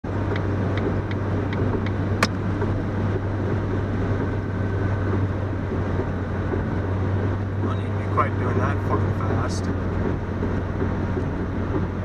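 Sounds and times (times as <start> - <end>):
car engine drone from inside: 0.0 - 12.0
road rumble: 0.0 - 12.0.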